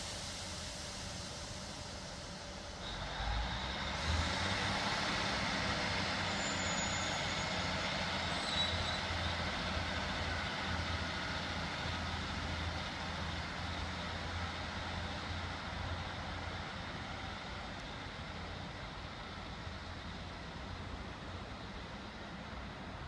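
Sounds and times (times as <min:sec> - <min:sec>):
rushing mechanical noise: 0:00.0 - 0:20.9
train diesel engine drone: 0:00.0 - 0:23.0.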